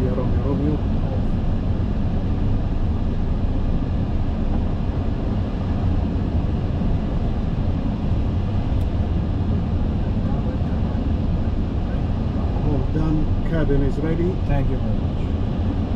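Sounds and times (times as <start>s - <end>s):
air-conditioning noise: 0.0s - 15.9s
airflow noise in cockpit: 0.0s - 15.9s.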